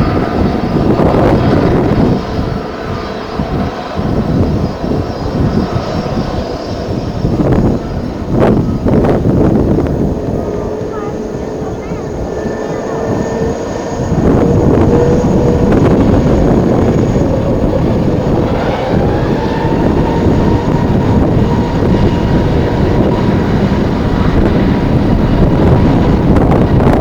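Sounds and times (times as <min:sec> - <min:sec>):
jet engines running: 0:00.0 - 0:27.0
wind buffeting microphone: 0:00.0 - 0:27.0.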